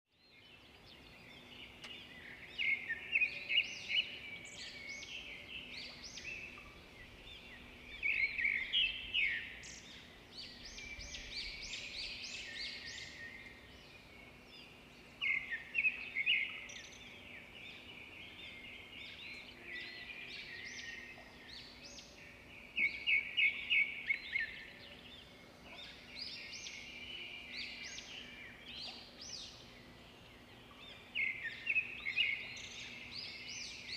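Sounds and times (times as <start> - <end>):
small birds chirping and trilling: 0.1 - 33.9.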